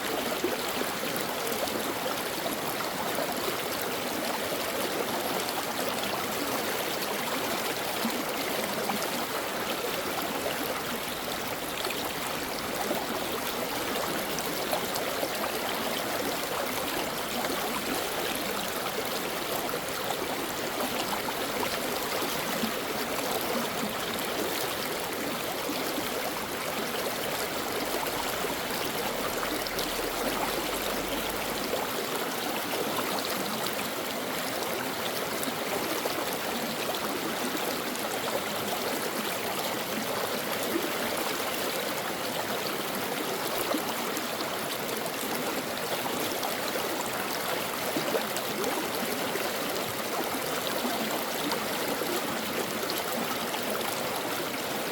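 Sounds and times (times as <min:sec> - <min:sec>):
brook babbling over rocks: 0:00.0 - 0:54.9.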